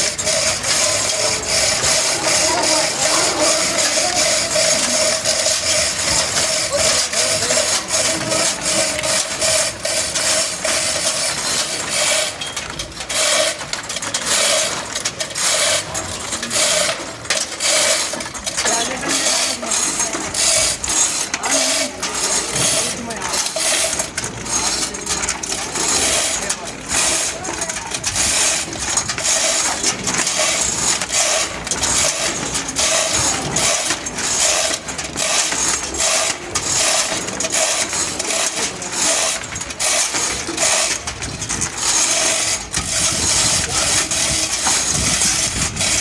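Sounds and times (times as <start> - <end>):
pig hooves clattering: 0.0 - 46.0.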